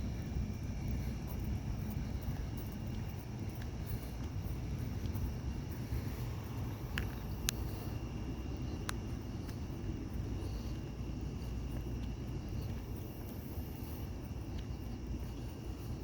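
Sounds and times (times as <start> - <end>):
crickets trilling: 0.0 - 16.0
low outdoor rumble: 0.0 - 16.0.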